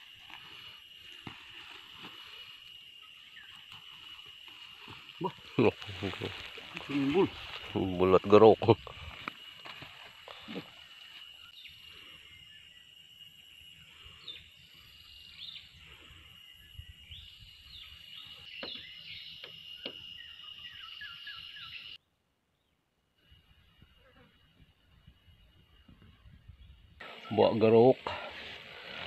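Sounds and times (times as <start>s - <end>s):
birds chirping: 0.0s - 22.0s, 25.4s - 29.0s.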